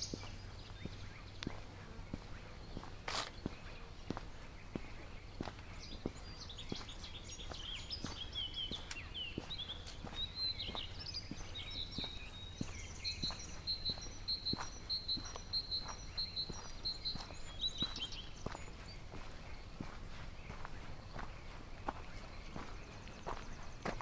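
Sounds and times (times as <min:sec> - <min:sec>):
footsteps crunching on gravel: 0:00.0 - 0:24.0
songbirds singing: 0:00.0 - 0:24.0.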